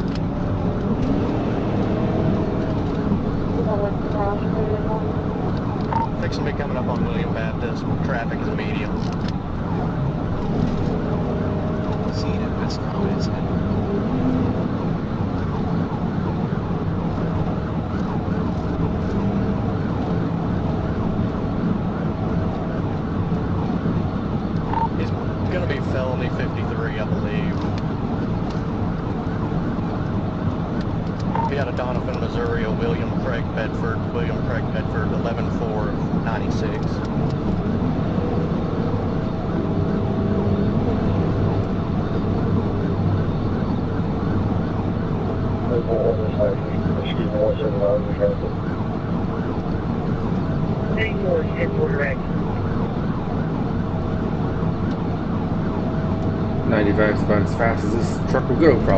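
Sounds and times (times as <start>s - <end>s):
car engine and road noise: 0.0s - 58.9s
police siren: 0.4s - 58.9s.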